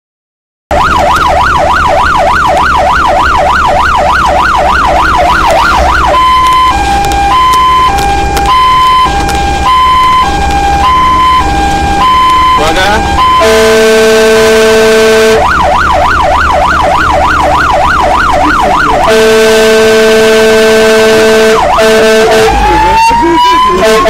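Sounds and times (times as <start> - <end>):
fire engine siren: 0.7 - 24.0
low engine drone: 0.7 - 24.0.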